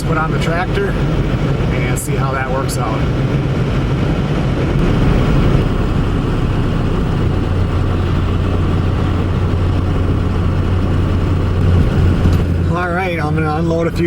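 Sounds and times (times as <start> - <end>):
even rushing noise: 0.0 - 14.0
truck engine humming: 0.0 - 14.0.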